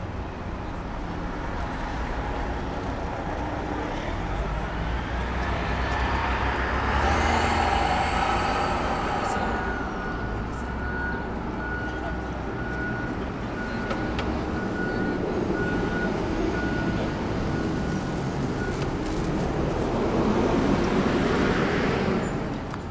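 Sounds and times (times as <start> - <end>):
city street traffic rumble: 0.0 - 22.9.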